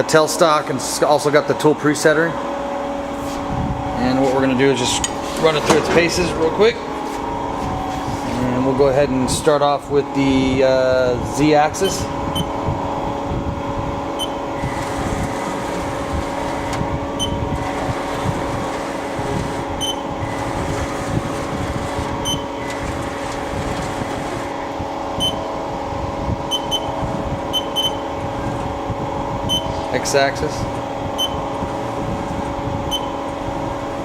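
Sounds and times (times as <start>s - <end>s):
lathe humming: 0.0s - 34.0s.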